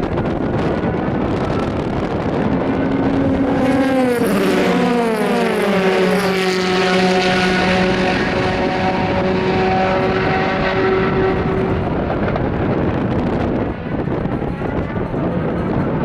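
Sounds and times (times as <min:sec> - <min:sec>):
race car passing: 0:00.2 - 0:15.9.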